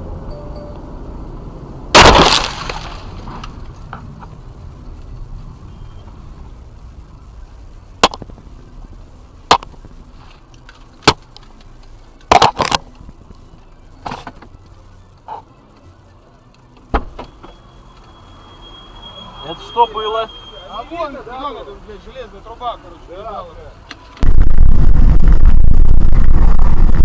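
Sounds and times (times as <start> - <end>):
car rumbling on the move: 0.0 - 27.0.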